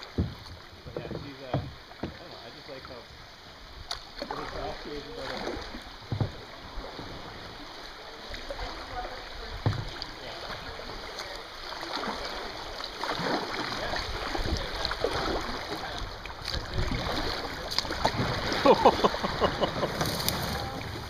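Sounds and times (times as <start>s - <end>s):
kayak scraping through reeds: 0.0s - 21.0s
river water rippling and splashing: 0.0s - 21.0s.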